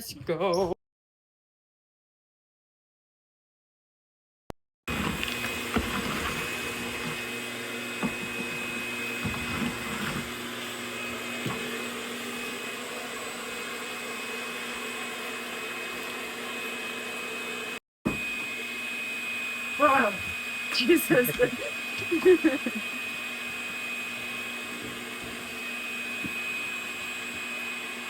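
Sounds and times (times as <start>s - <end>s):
vacuum machine droning: 4.9s - 28.0s.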